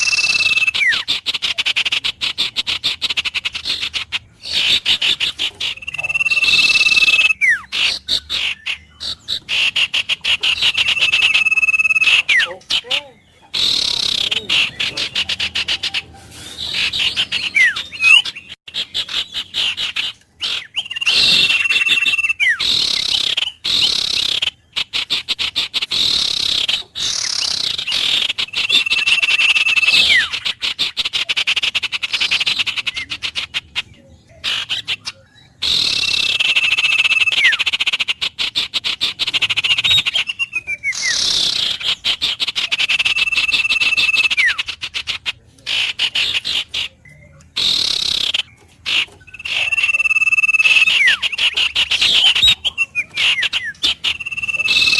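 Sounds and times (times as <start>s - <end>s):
pulsing chorus of chirps: 0.0s - 30.6s, 35.6s - 45.0s, 45.9s - 54.9s
birds calling: 0.0s - 54.9s.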